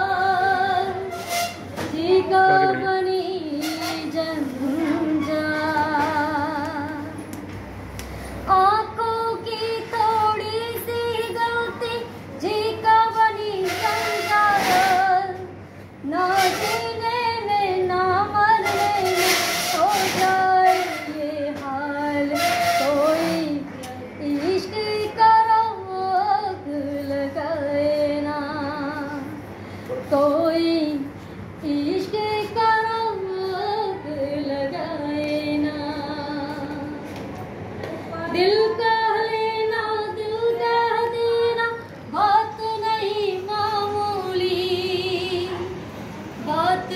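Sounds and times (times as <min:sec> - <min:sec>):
woman singing unaccompanied: 0:00.0 - 0:01.2, 0:01.8 - 0:07.4, 0:08.5 - 0:29.4, 0:30.1 - 0:37.1, 0:38.1 - 0:45.8, 0:46.4 - 0:46.9.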